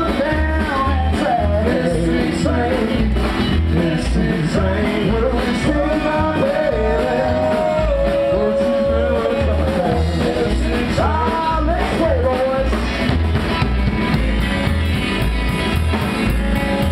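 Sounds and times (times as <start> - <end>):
country rock band playing: 0.0 - 16.9
double bass notes pulsing: 0.0 - 16.9.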